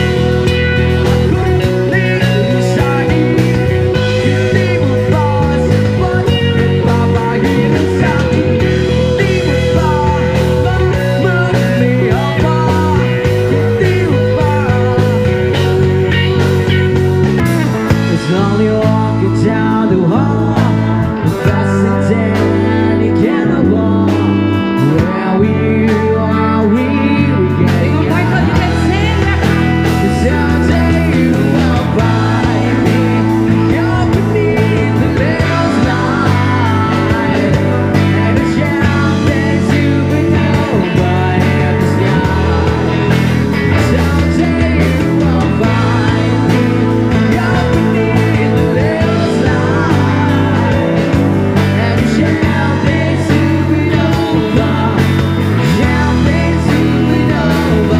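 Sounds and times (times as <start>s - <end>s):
electric guitar: 0.0s - 57.9s
live rock band playing: 0.0s - 57.9s.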